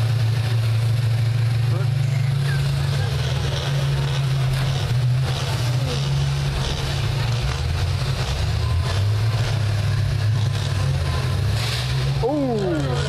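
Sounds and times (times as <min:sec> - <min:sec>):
bus engines running loud: 0:00.0 - 0:13.0.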